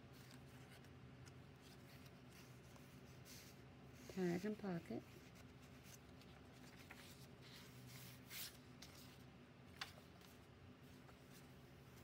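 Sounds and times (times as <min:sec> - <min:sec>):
paper pages turning: 0:00.1 - 0:03.6, 0:05.2 - 0:12.0.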